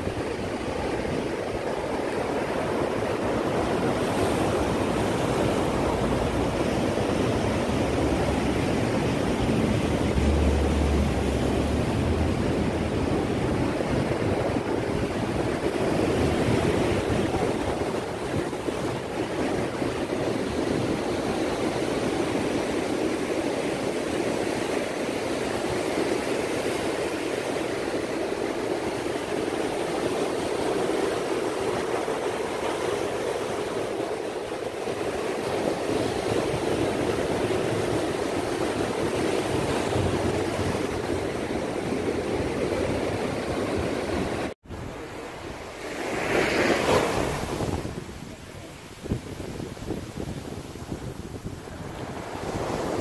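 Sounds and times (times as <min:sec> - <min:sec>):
surf breaking over rocks: 0:00.0 - 0:53.0.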